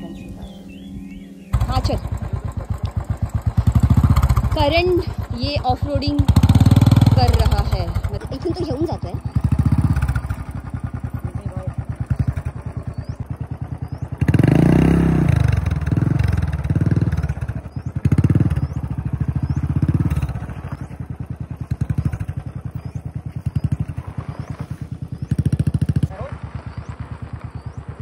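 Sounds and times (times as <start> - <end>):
motorcycle engine chugging: 0.0 - 28.0
motorcycle throttle bursts: 1.5 - 28.0.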